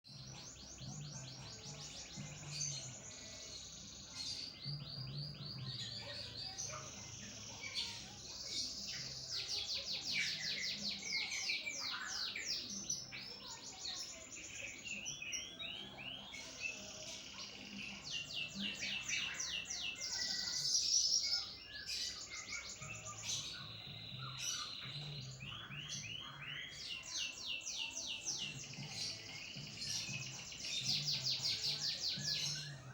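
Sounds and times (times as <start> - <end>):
canary singing trills: 0.1 - 32.9.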